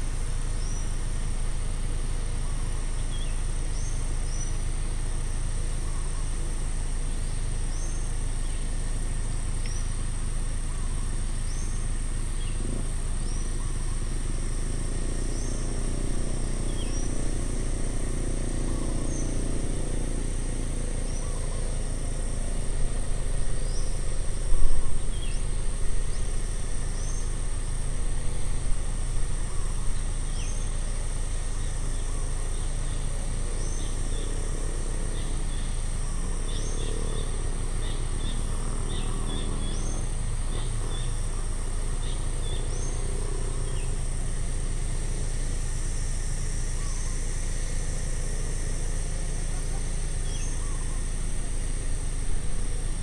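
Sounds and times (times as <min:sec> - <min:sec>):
high insect drone: 0:00.0 - 0:53.0
small birds chirping: 0:10.6 - 0:53.0.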